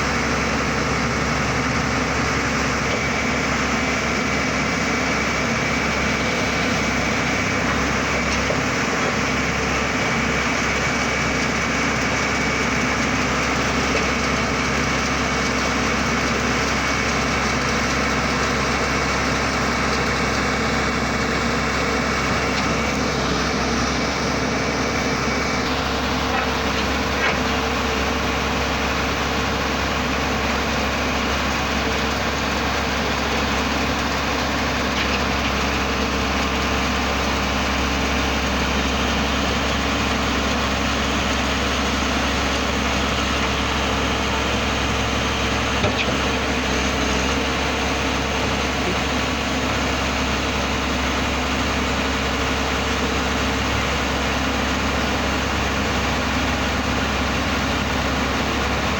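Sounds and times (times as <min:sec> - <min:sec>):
drilling machine engine running: 0:00.0 - 0:58.9.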